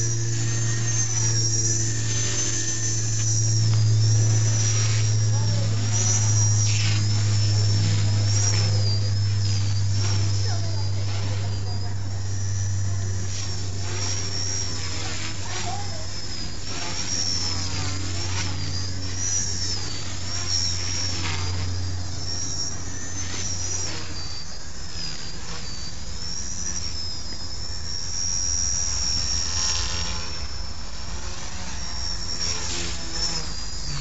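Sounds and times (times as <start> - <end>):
low hum: 0.0 - 34.0
rc helicopter motor whine: 0.0 - 34.0.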